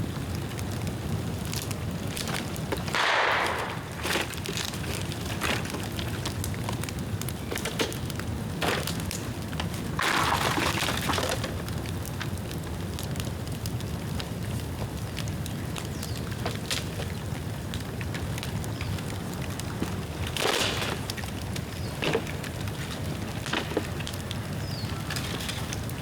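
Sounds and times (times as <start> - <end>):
bamboo bonfire crackling and popping: 0.0 - 26.0
low fire rumble: 0.0 - 26.0.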